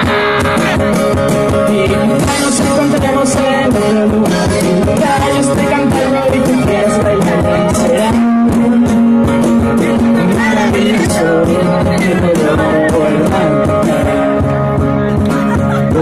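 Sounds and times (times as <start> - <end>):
guitar playing: 0.0 - 16.0
percussion beat: 0.0 - 16.0.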